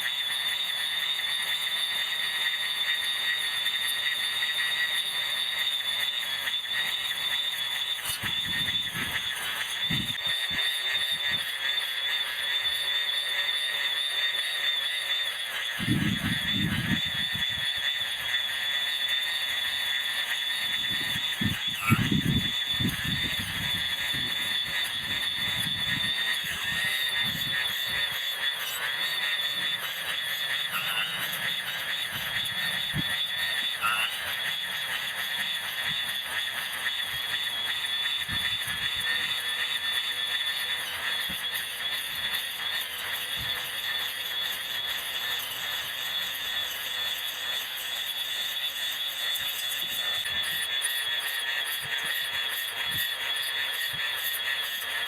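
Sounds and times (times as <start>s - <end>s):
electric grass trimmer whine: 0.0s - 55.0s.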